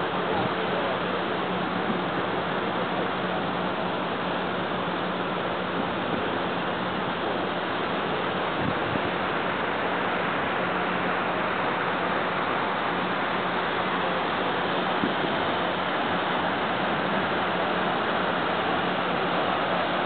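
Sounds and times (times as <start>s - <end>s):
waterfront ambience: 0.0s - 20.0s.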